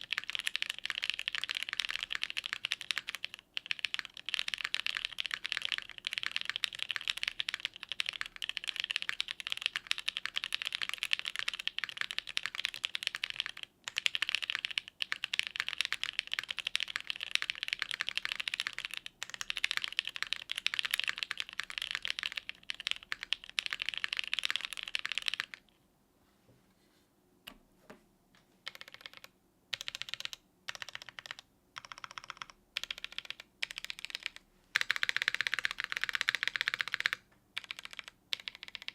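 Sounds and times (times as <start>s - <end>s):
mechanical keyboard typing: 0.0s - 25.7s, 28.6s - 38.9s.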